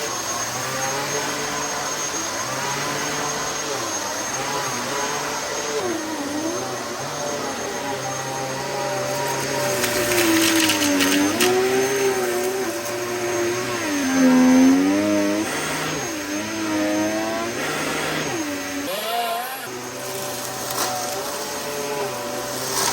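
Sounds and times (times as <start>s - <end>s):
vacuum cleaner motor whine: 0.0s - 22.9s.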